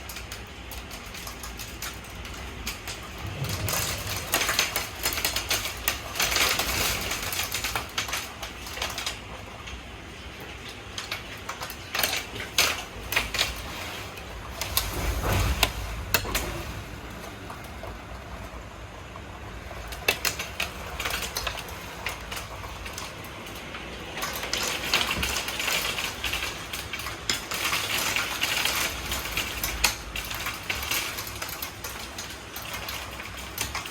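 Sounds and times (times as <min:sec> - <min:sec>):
hailstones clattering on hard surfaces: 0:00.0 - 0:16.5, 0:19.5 - 0:33.9
hiss of falling ice and rain: 0:00.0 - 0:33.9.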